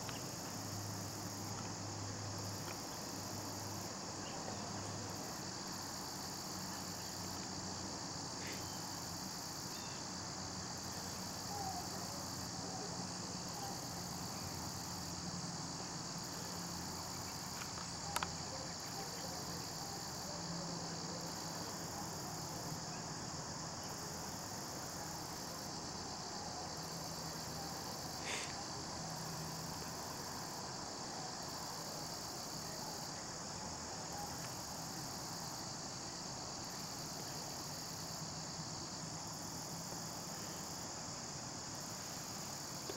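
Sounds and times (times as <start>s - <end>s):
crickets trilling: 0.0s - 42.9s.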